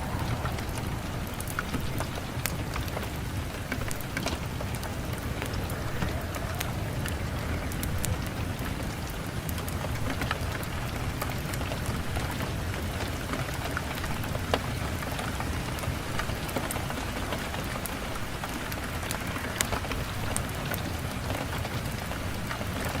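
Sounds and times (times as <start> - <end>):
sharp raindrop ticks: 0.0 - 23.0
steady rain falling: 0.0 - 23.0.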